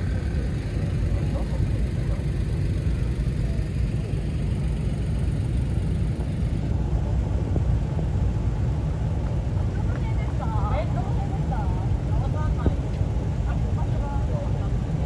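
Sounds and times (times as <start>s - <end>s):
cars moving slowly: 0.0s - 15.0s.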